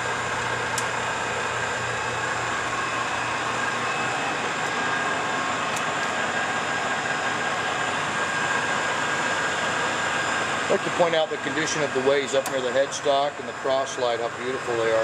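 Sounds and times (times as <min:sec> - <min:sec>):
lathe mechanical whine: 0:00.0 - 0:15.0.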